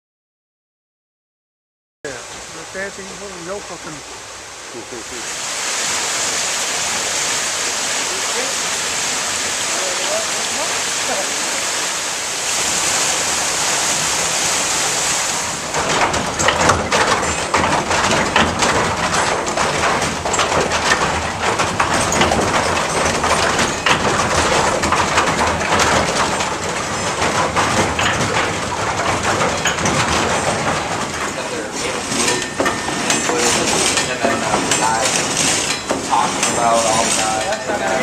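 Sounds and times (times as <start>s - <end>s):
rushing water: 2.1s - 38.0s.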